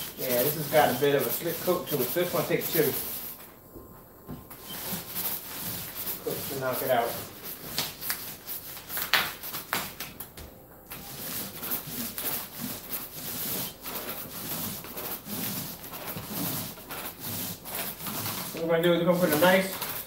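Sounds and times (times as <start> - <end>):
paint roller rolling on screen: 0.0 - 3.6, 4.3 - 10.2, 10.9 - 20.0.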